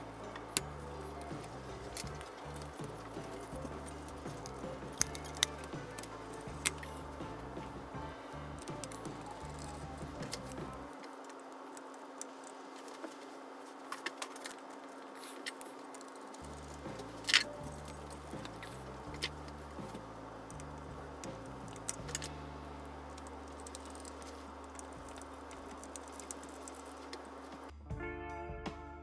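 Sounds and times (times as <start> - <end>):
metal fan parts clicking: 0.0 - 27.7.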